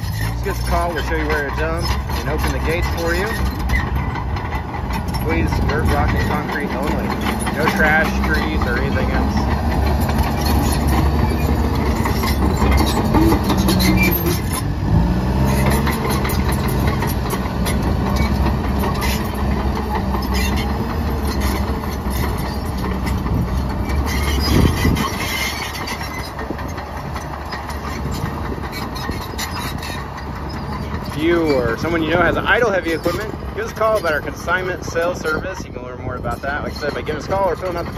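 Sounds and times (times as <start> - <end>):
diesel engine under load: 0.0 - 37.9
steel tracks clanking: 0.0 - 37.9.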